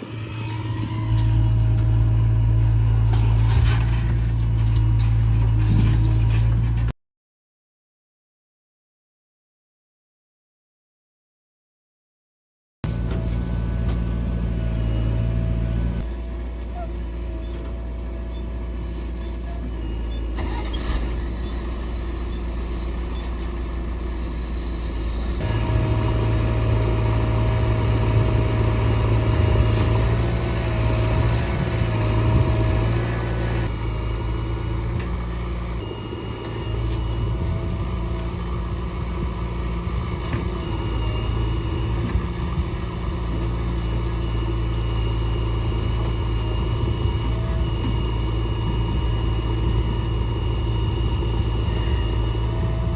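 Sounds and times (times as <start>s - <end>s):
heavy diesel engine running: 0.0s - 6.9s, 12.8s - 52.9s.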